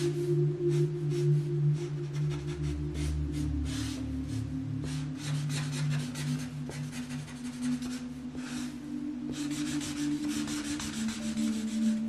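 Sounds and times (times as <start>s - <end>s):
soft background music: 0.0s - 12.0s
marker rubbing on paper: 0.7s - 12.0s.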